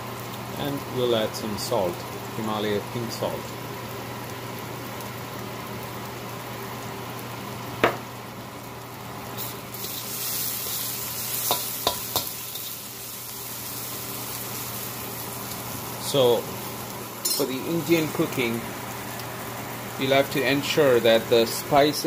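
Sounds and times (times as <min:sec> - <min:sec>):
onions sizzling in a wok: 0:00.0 - 0:22.0.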